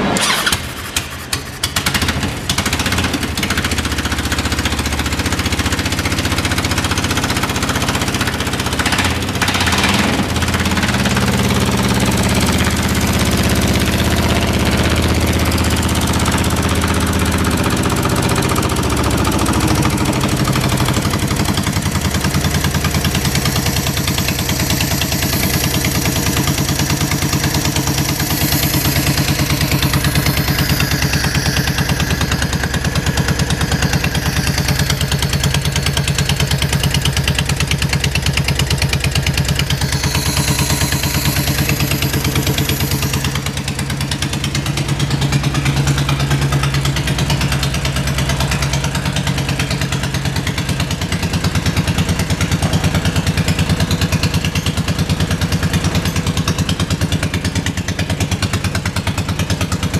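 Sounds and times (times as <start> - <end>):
motorcycle engine idling: 0.2 - 59.9.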